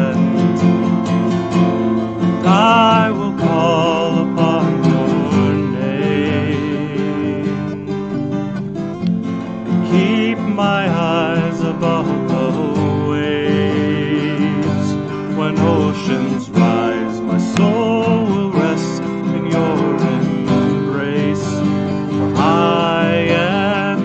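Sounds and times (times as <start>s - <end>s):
person singing: 0.0s - 1.0s, 2.3s - 8.4s, 9.6s - 24.0s
strummed twelve-string guitar: 0.0s - 24.0s.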